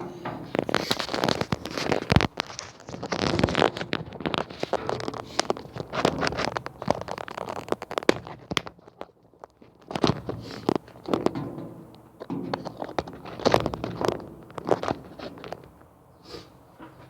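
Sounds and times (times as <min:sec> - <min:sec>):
sharp clicks and knocks: 0:00.0 - 0:15.9
handling rustling and scraping: 0:00.0 - 0:17.0.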